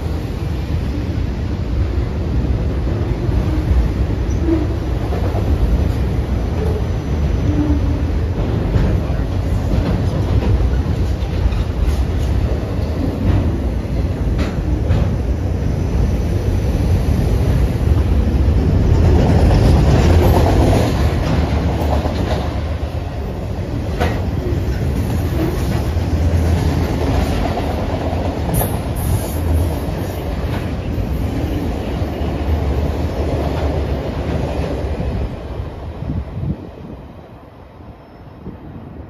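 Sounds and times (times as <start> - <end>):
freight train wheels rumbling: 0.0 - 39.0
clickety-clack over rail joints: 2.4 - 36.8.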